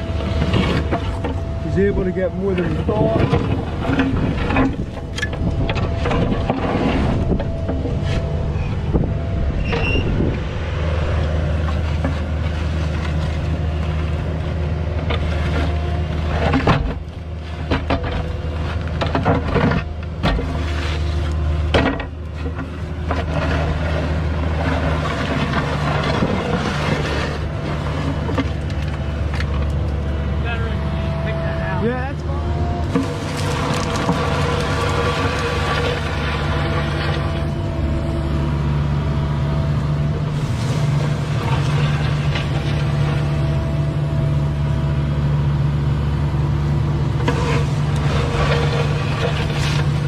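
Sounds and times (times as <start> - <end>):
bucket scraping dirt: 0.0 - 10.4, 11.0 - 14.4, 15.0 - 29.8, 32.8 - 38.0, 40.2 - 44.0, 47.2 - 50.0
diesel engine running: 0.0 - 50.0.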